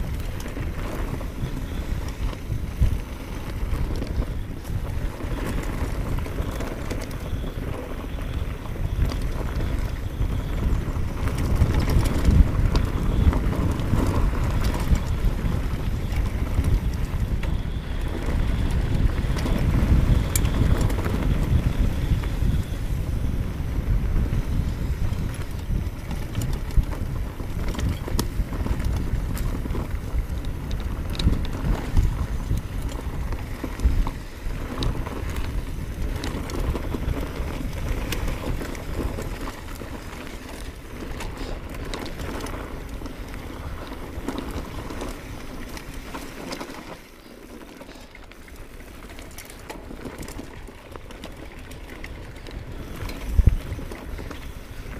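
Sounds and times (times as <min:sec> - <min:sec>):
bike clicks and rattles: 0:00.0 - 0:54.9
bike tyres rolling over dirt: 0:00.0 - 0:54.9
wind on microphone: 0:00.0 - 0:54.9.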